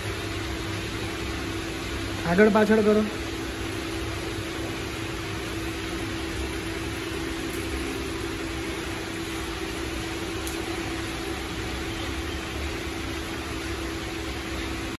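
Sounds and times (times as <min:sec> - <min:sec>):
electric concrete mixer humming: 0:00.0 - 0:14.9.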